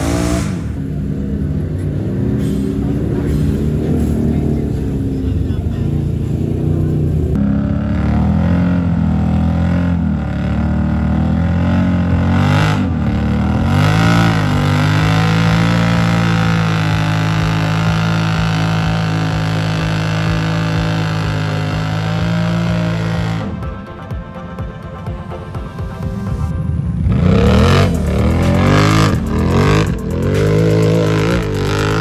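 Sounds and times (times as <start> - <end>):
four-wheeler engine revving: 0.0 - 23.9, 26.5 - 32.0.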